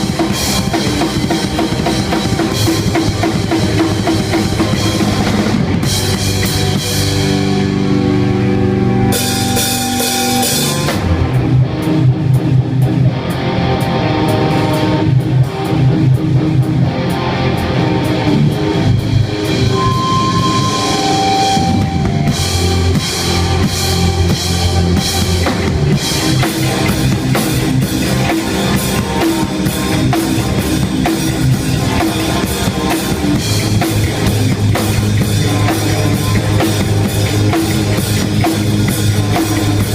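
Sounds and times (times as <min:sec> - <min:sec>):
hardcore band playing loud: 0:00.0 - 0:39.9.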